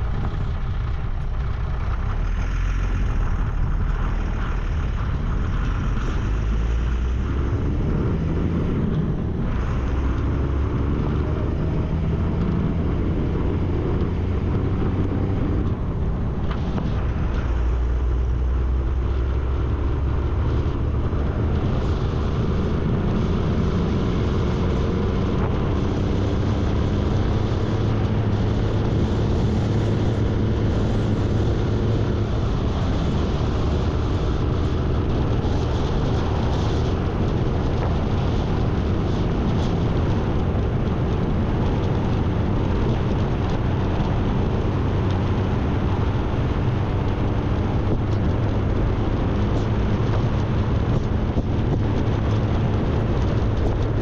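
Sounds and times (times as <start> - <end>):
road and wind noise: 0.0 - 54.0
truck diesel engine running: 0.0 - 54.0.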